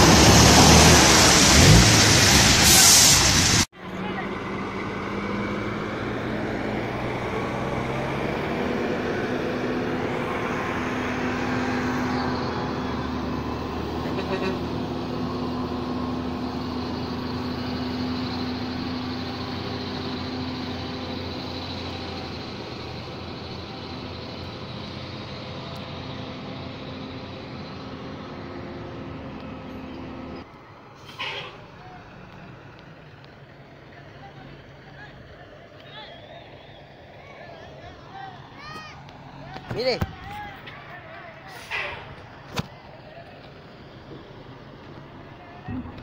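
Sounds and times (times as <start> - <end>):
truck diesel engine at low revs: 0.0 - 46.0.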